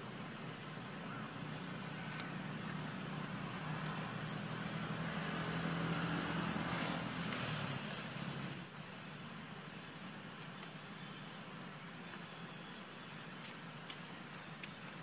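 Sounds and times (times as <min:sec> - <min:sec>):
low steady hum: 0:00.0 - 0:15.0
outdoor hiss: 0:00.0 - 0:15.0.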